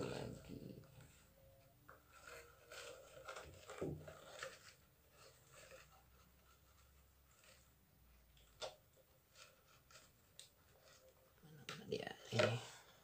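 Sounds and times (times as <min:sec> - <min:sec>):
hands rustling and scraping in glass tank: 0:00.0 - 0:13.0.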